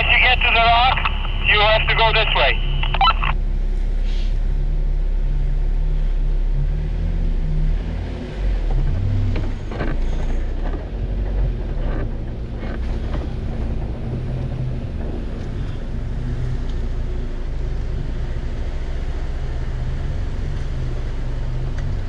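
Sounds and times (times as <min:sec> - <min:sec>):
car engine at low crawl: 0:00.0 - 0:22.0.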